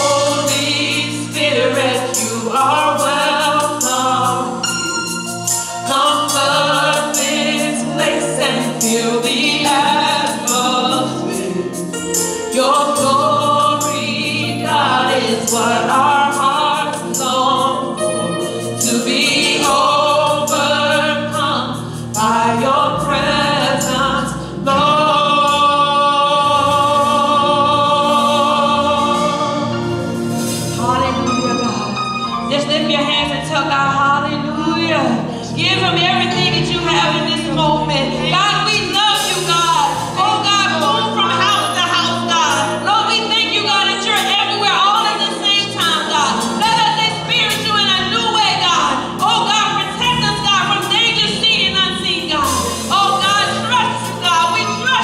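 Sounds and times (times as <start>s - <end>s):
gospel song with accompaniment: 0.0s - 55.0s.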